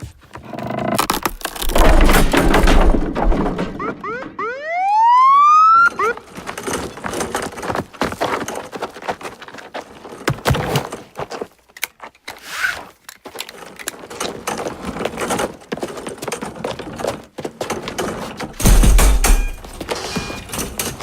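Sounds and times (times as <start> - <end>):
clatter of knocks and clicks: 0.4 - 4.2, 6.0 - 12.0, 13.1 - 21.0.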